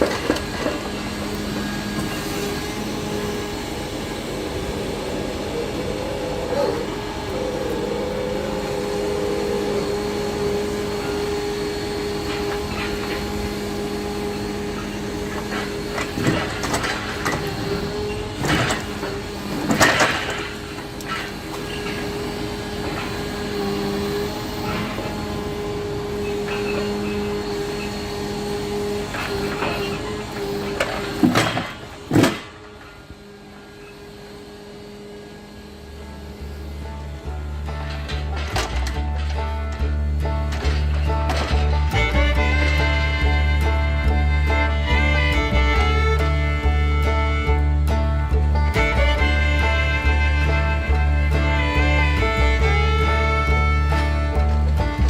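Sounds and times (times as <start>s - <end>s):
truck engine and hydraulic loader hum: 0.0s - 55.0s.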